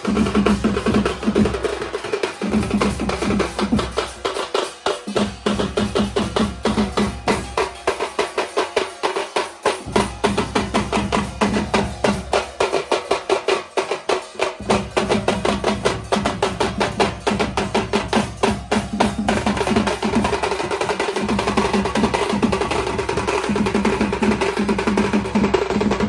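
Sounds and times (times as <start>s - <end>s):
drum ensemble beating fast rhythm: 0.0s - 26.0s.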